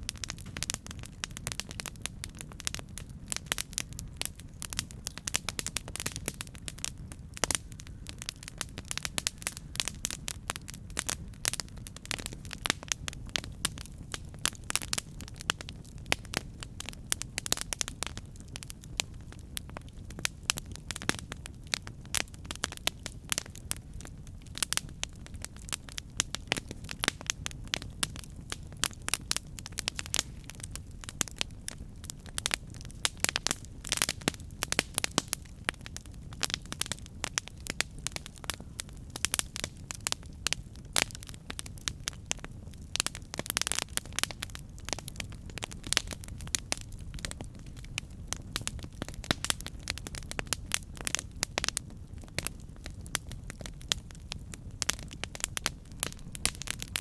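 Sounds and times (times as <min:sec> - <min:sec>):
low rumble of flame: 0:00.0 - 0:57.0
wood crackling and popping: 0:00.0 - 0:57.0.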